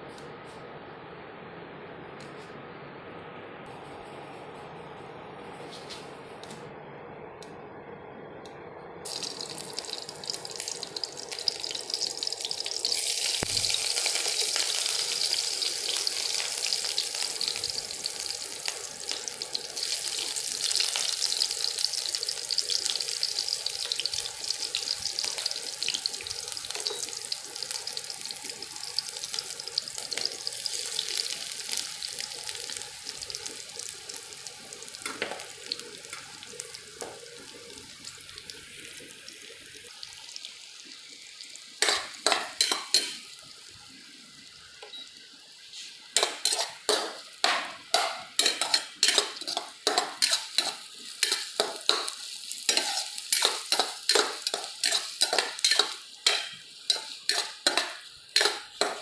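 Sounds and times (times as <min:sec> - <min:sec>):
hot oil sizzling in a wok: 0:09.0 - 0:59.0.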